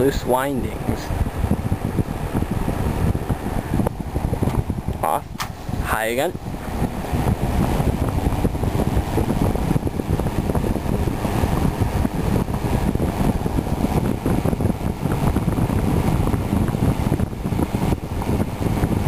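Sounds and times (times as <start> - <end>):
box fan rushing air: 0.0 - 19.0.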